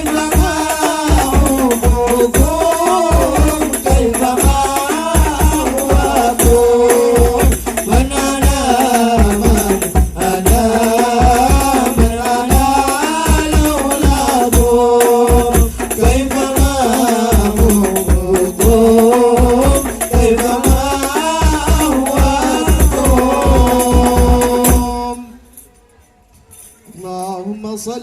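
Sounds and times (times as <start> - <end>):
frame drums and bass drum beating: 0.0 - 25.2
devotional singing: 0.0 - 25.6
jingling tambourine: 0.0 - 28.0.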